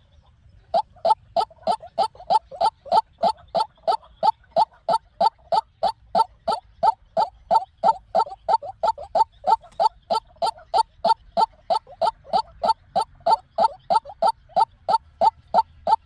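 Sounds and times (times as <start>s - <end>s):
waterhen calling: 0.6s - 16.0s.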